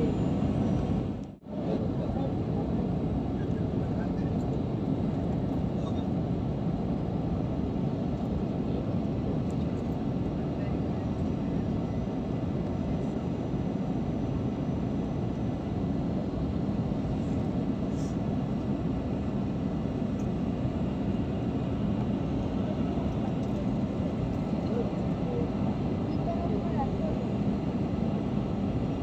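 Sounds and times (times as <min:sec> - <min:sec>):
airliner engine drone in cabin: 0:00.0 - 0:29.0.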